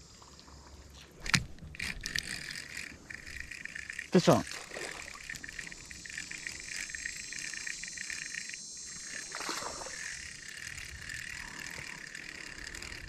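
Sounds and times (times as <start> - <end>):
insects and frogs chorus: 0.0 - 13.0.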